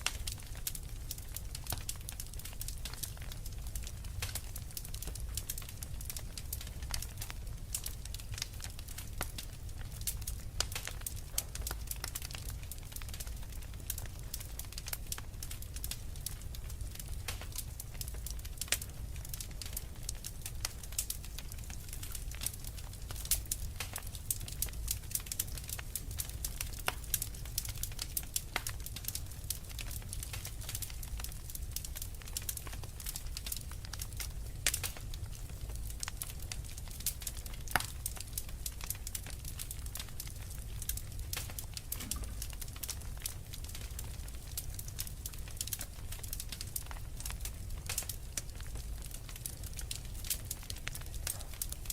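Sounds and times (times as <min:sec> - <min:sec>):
fire crackling and popping: 0:00.0 - 0:51.9.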